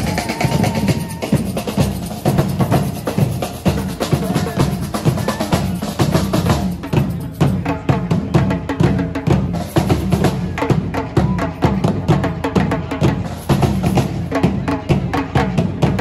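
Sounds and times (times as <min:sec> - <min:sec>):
bass drums: 0:00.0 - 0:16.0
marching snare drums: 0:00.0 - 0:16.0.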